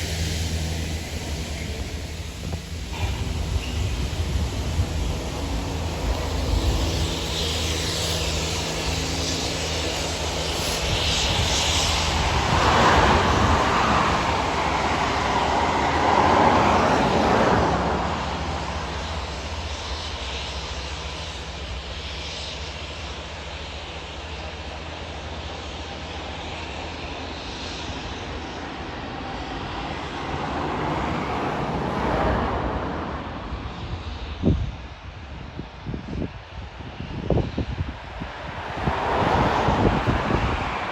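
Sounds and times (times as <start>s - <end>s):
high-pressure water jets hissing: 0.0s - 34.5s
diesel locomotive engine hum: 0.0s - 40.9s.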